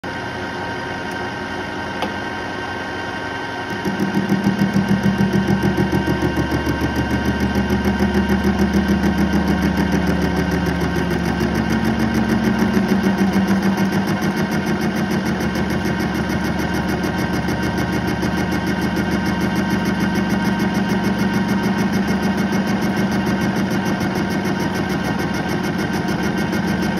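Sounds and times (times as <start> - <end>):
metal lathe humming: 0.2 - 26.9.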